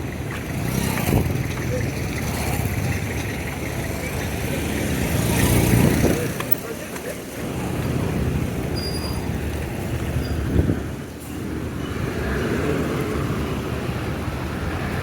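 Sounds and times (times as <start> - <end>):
vehicles passing on road: 0.0 - 15.0.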